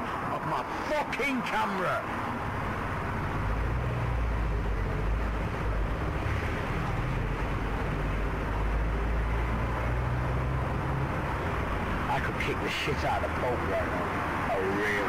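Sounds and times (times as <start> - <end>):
traffic noise: 0.0 - 15.0
vehicle engine rumbling: 2.1 - 15.0.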